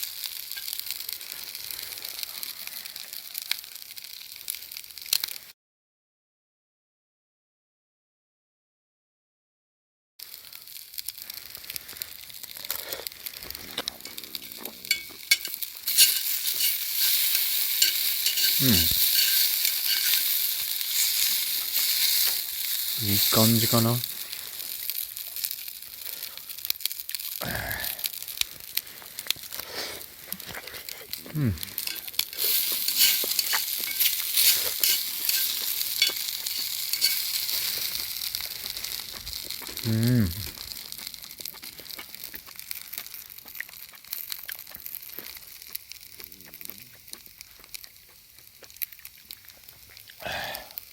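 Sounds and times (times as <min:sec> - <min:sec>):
fire pops and crackles: 0:00.0 - 0:05.5, 0:10.2 - 0:50.9
food sizzling over wood fire: 0:00.0 - 0:05.6, 0:10.2 - 0:50.9.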